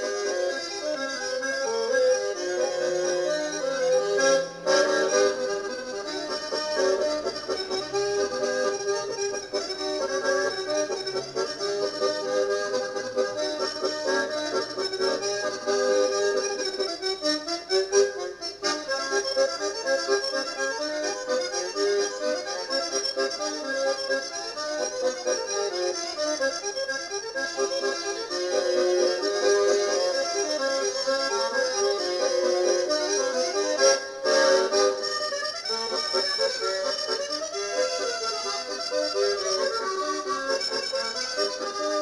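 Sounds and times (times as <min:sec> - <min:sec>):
accordion folk dance tune: 0:00.0 - 0:42.0.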